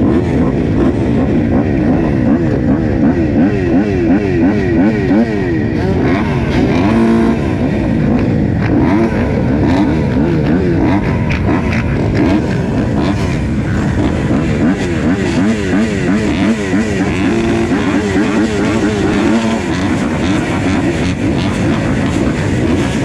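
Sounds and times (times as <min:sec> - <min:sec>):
motorbike engines revving: 0:00.0 - 0:23.0.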